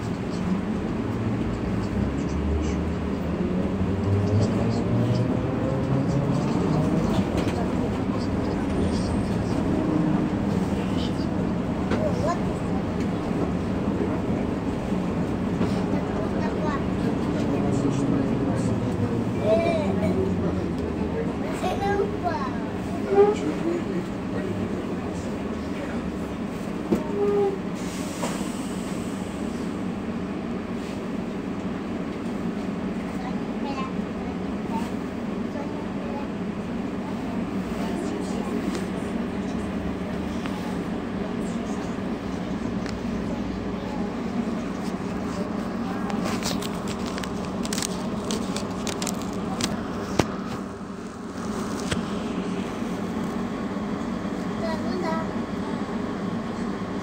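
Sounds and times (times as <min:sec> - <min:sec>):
trolleybus interior rumble: 0:00.0 - 0:57.0.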